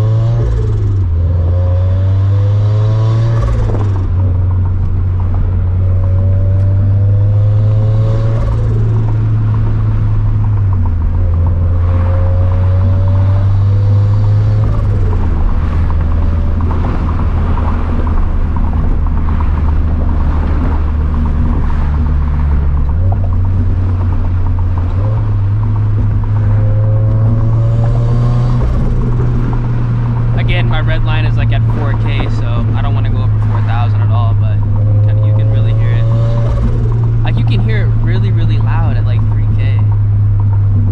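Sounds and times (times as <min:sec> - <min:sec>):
car engine and exhaust droning: 0:00.0 - 0:40.9.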